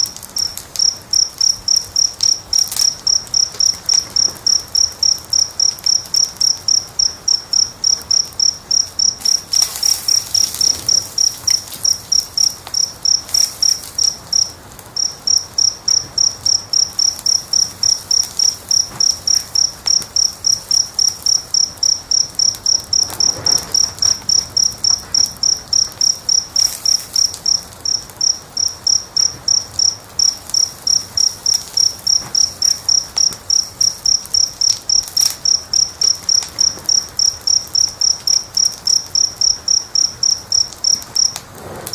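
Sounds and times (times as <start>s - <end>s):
cricket chirping: 0.0s - 41.9s
faint wood fire crackles: 0.0s - 41.9s.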